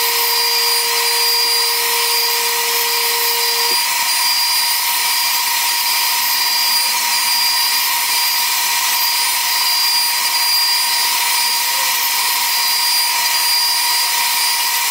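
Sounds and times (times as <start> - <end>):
router cutting wood whine: 0.0 - 14.9.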